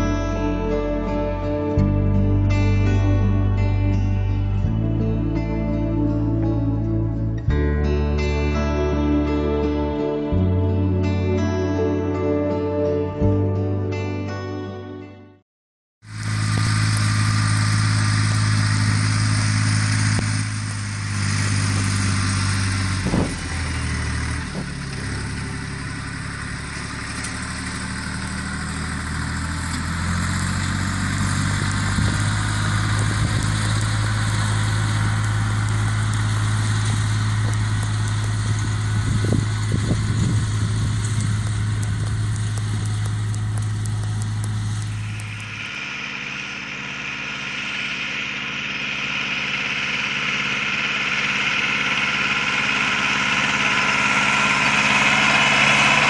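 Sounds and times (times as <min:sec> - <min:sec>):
diesel tractor engine running: 0:00.0 - 0:14.0, 0:16.0 - 0:56.0.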